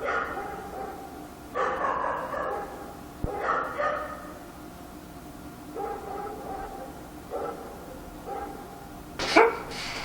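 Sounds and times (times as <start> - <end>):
dog barking: 0.0 - 4.3, 5.7 - 10.0.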